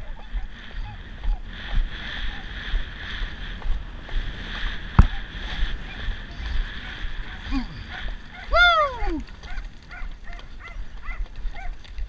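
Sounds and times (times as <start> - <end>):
hooves thudding on dirt: 0.0 - 12.0
wind on microphone: 0.0 - 12.0.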